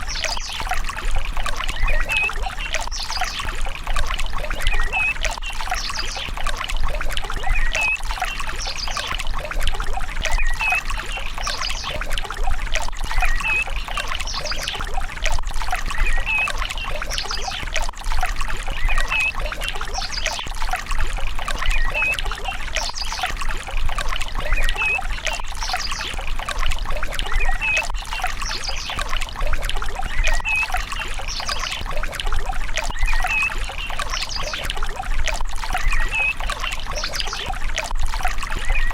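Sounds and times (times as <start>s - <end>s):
water pouring and trickling: 0.0s - 38.9s.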